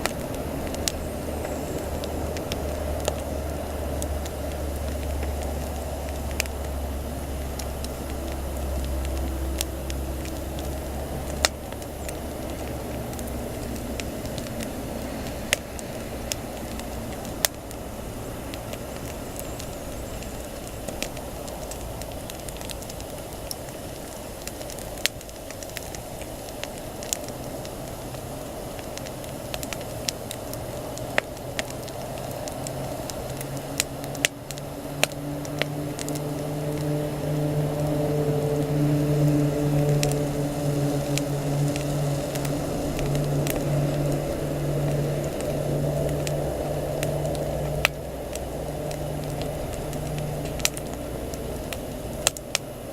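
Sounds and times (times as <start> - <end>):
campfire crackling and popping: 0.0 - 52.9
low steady hum: 0.0 - 52.9.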